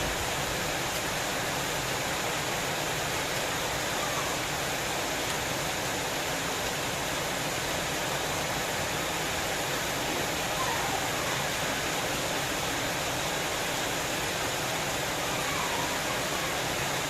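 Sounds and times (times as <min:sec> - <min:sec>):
steady rainfall hiss: 0:00.0 - 0:17.0.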